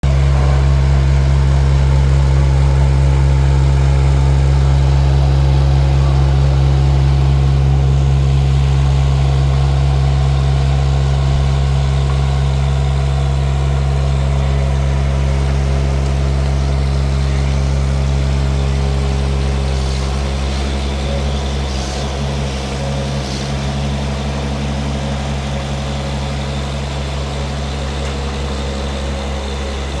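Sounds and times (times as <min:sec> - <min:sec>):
excavator engine running: 0:00.0 - 0:30.0.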